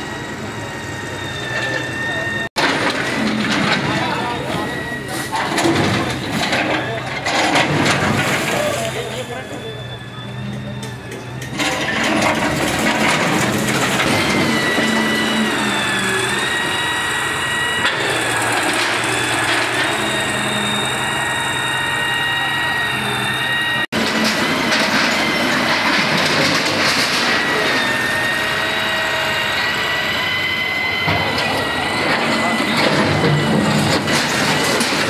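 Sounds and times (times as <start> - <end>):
excavator engine drone: 0.0 - 35.0
high hydraulic whine: 0.0 - 35.0.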